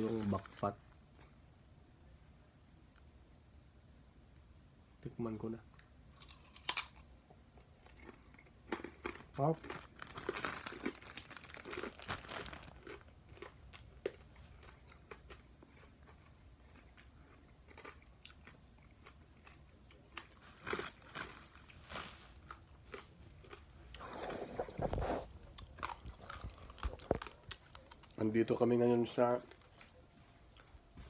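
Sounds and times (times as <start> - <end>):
person chewing crispy cracklings: 5.7 - 30.8.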